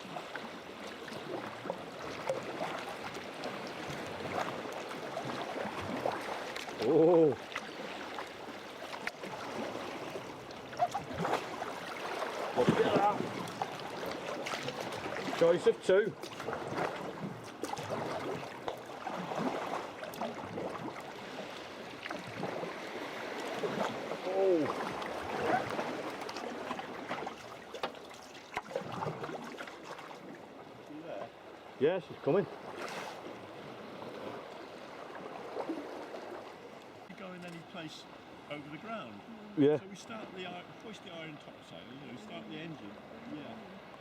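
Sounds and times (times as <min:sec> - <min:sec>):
moving water wash: 0:00.0 - 0:44.0
paddle splashing and dripping: 0:00.0 - 0:44.0.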